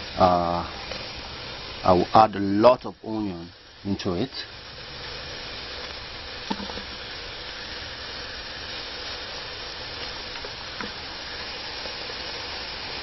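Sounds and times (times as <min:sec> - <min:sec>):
greens sizzling in a pot: 0:00.0 - 0:13.0.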